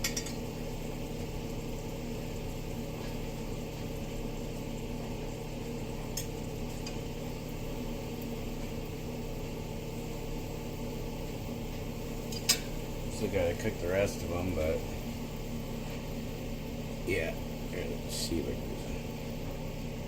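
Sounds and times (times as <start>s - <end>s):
appliance hum with hiss: 0.0s - 20.0s.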